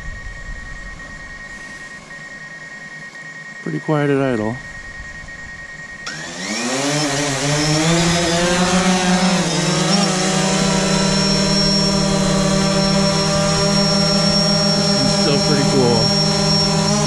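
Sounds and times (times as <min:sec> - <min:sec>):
drone propeller hum: 0:00.0 - 0:17.0.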